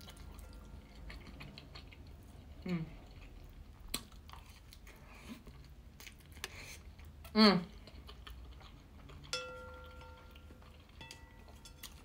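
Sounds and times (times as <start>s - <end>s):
soft chewing and mouth noises: 0.0s - 12.0s.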